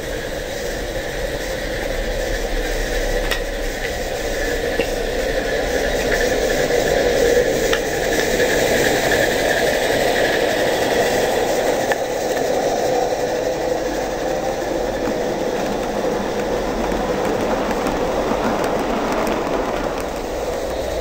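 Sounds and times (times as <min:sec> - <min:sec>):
model train wheels rumbling: 0:00.0 - 0:21.0.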